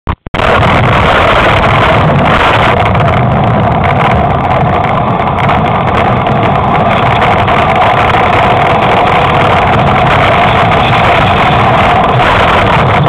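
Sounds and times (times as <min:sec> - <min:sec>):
moving vehicle rumble: 0:00.2 - 0:13.0
wind buffeting microphone: 0:00.3 - 0:13.0.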